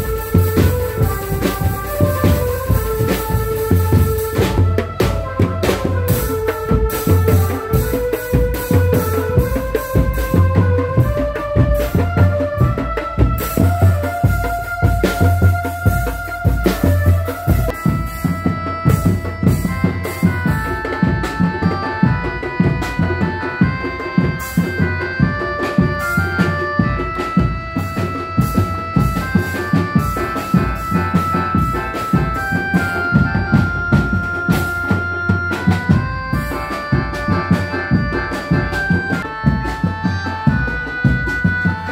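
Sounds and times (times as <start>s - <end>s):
fast driving drumming: 0.0s - 41.9s
melody of held notes: 0.0s - 41.9s.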